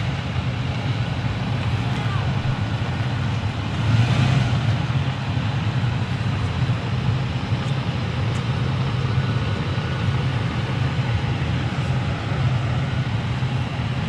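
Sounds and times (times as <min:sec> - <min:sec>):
truck engine low hum: 0:00.0 - 0:14.0.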